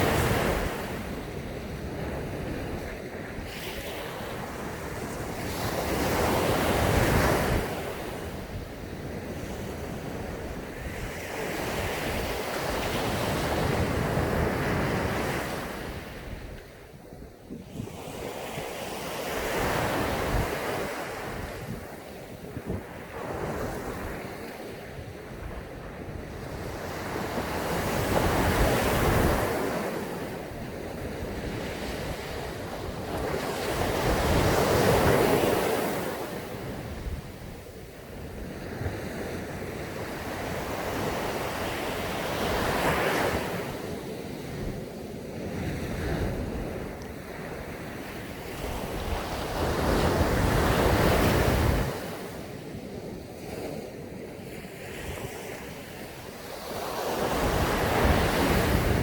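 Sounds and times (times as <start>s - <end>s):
sea waves breaking on a beach: 0.0s - 59.0s.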